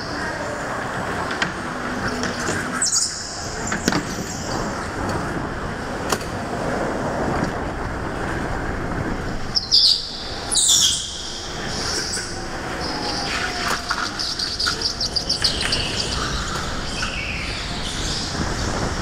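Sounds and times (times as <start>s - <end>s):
go-kart running and rolling: 0.0s - 19.0s.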